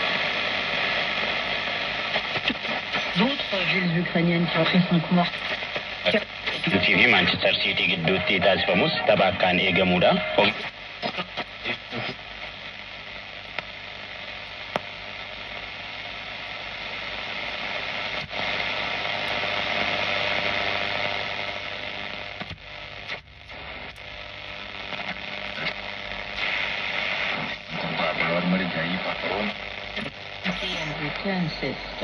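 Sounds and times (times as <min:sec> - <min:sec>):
radio static and hiss: 0:00.0 - 0:32.0.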